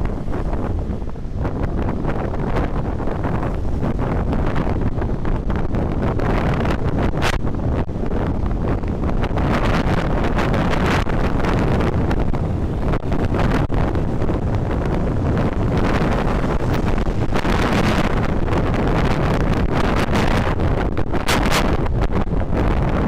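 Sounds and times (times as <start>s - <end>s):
road and engine noise: 0.0s - 23.0s
wind buffeting microphone: 0.0s - 23.0s.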